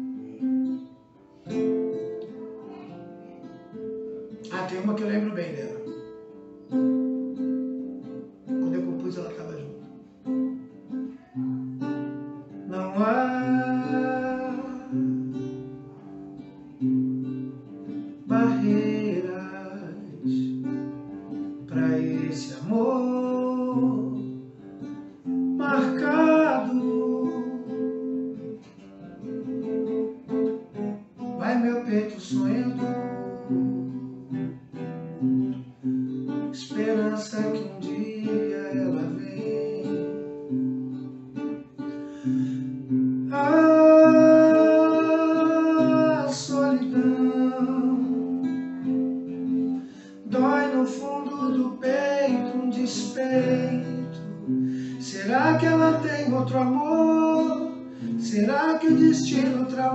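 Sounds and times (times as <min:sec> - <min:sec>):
acoustic guitar strumming: 0:00.0 - 0:59.9
man singing: 0:04.4 - 0:06.9, 0:08.4 - 0:17.0, 0:17.9 - 0:28.6, 0:29.2 - 0:34.6, 0:36.4 - 0:41.2, 0:42.2 - 0:59.9.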